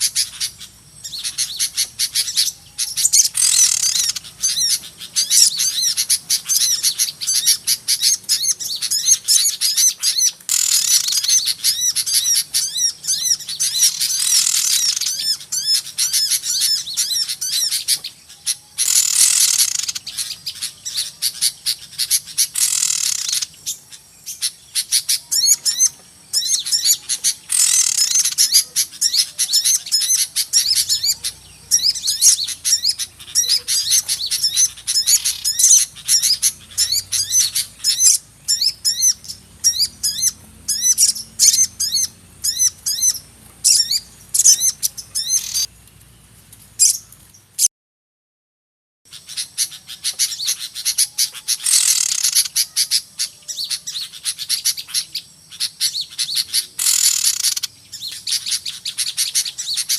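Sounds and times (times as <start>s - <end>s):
songbirds chirping and twittering: 0.0s - 47.7s, 49.1s - 59.9s.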